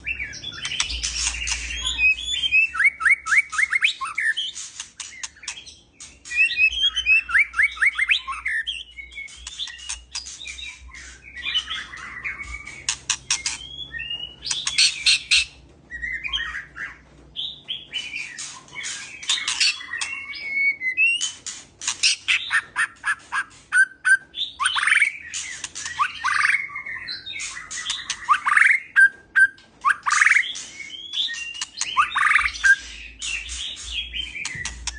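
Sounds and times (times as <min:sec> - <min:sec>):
bird harsh chattering: 0:00.0 - 0:15.6, 0:21.1 - 0:34.9
songbird singing whistles and trills: 0:00.0 - 0:21.4, 0:22.0 - 0:34.9.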